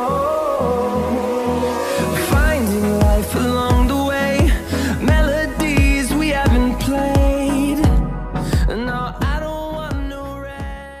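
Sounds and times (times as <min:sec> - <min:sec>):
pop music with drum beat: 0:00.0 - 0:11.0.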